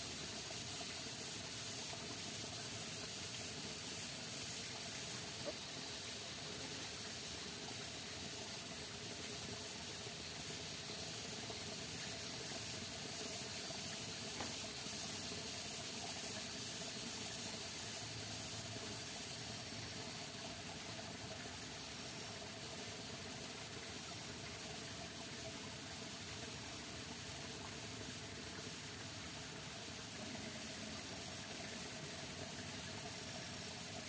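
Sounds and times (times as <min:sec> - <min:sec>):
rainforest ambience hiss: 0:00.0 - 0:34.0.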